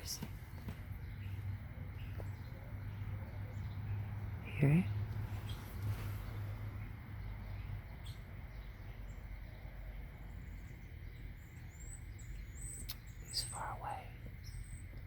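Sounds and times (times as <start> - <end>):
distant songbird chirping: 0.0 - 15.0
low outdoor rumble: 0.0 - 15.0.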